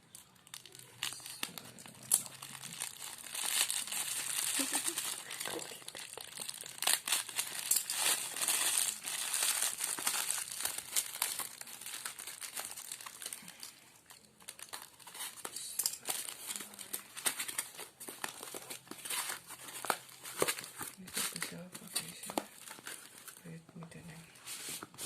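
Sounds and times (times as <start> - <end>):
packaging crinkling and rustling: 0.0 - 23.5.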